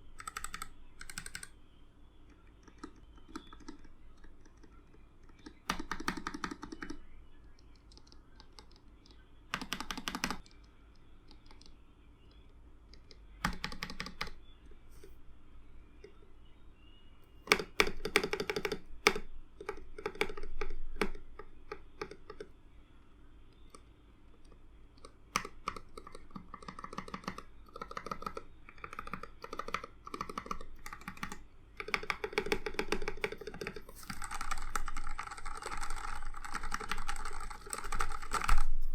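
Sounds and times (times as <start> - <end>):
typing on mechanical keyboard: 0.0 - 1.6, 2.3 - 11.8, 12.9 - 15.1, 17.4 - 22.5, 24.4 - 38.9.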